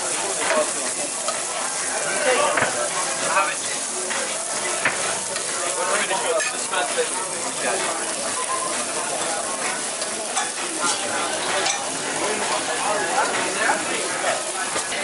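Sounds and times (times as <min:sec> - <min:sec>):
meat sizzling on a griddle: 0:00.0 - 0:15.0.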